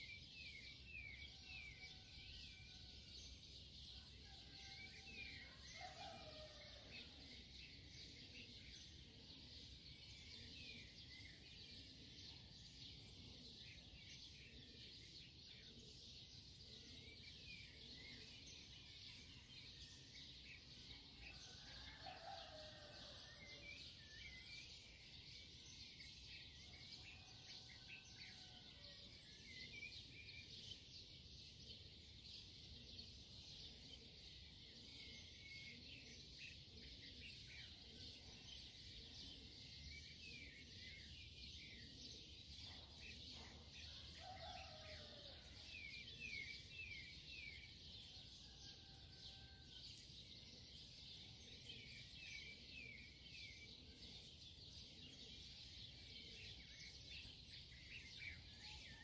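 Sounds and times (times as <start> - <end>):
faint birds chirping: 0.0 - 59.0.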